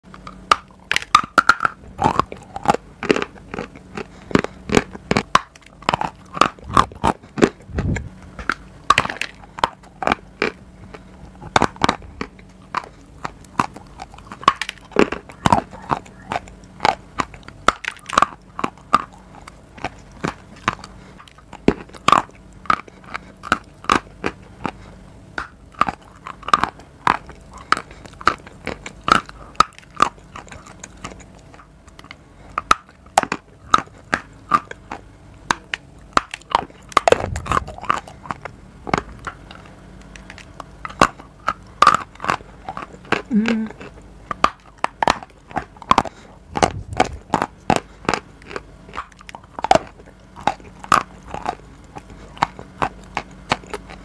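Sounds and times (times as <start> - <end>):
biting and crunching hard bar: 0.1 - 54.0.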